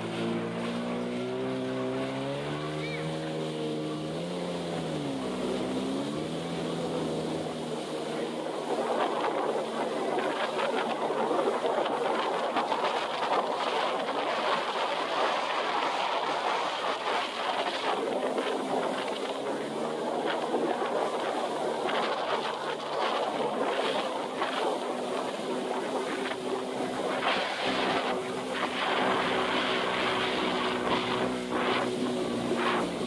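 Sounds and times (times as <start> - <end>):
jet ski engine running: 0.0 - 33.0
water and wind rushing: 0.0 - 33.0.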